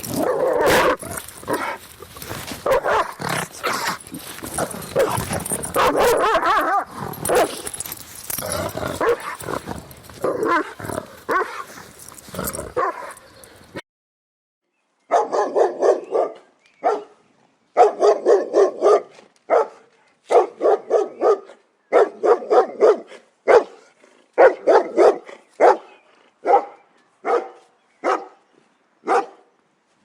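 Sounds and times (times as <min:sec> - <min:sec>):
dogs barking angrily: 0:00.0 - 0:13.8, 0:15.1 - 0:17.1, 0:17.8 - 0:28.4, 0:29.0 - 0:29.5.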